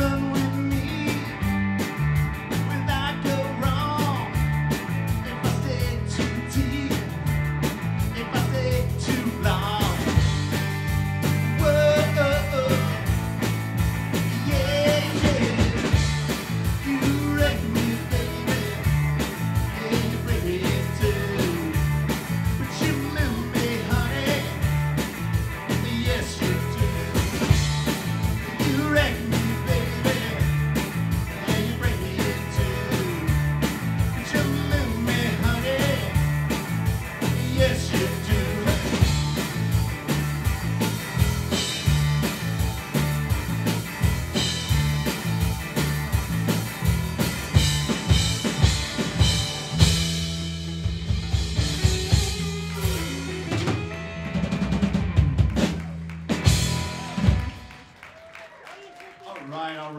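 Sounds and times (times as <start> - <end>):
repeating bass line: 0.0 - 57.4
live rock band playing: 0.0 - 58.3.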